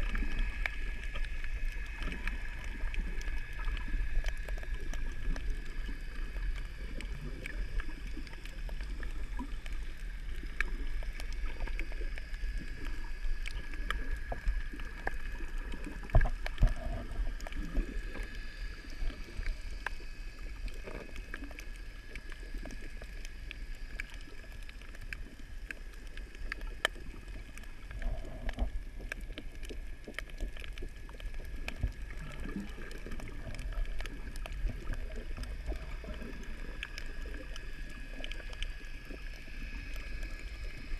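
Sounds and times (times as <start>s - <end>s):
sharp clicks and crackles: 0.0s - 40.9s
underwater low rumble: 0.0s - 40.9s.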